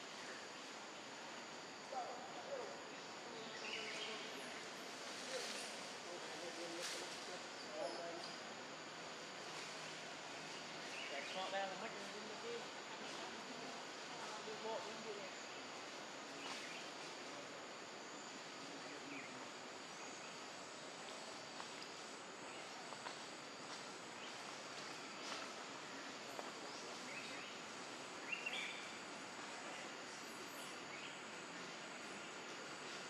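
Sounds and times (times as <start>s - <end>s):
insect drone with high whine: 0.0s - 33.0s.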